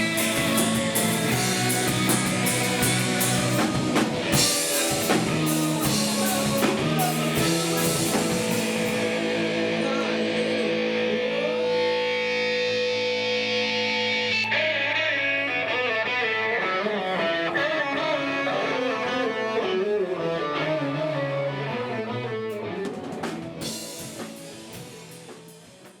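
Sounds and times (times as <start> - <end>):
rock music: 0.0 - 26.0.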